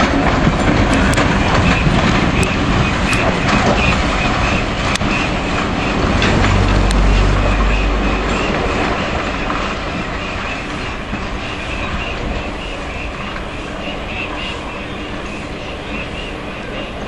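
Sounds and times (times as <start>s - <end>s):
train coaches rolling past: 0.0s - 17.0s
wheels clicking over rail joints: 0.0s - 17.0s.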